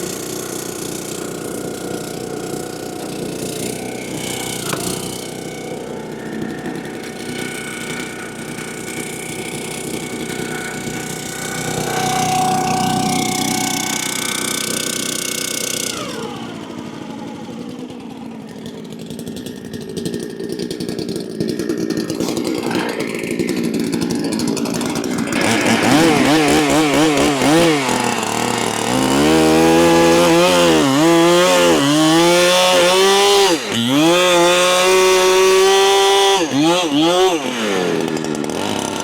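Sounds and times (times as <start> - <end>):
chainsaw cutting into log: 0.0 - 39.0
chainsaw idling and revving: 0.0 - 39.0.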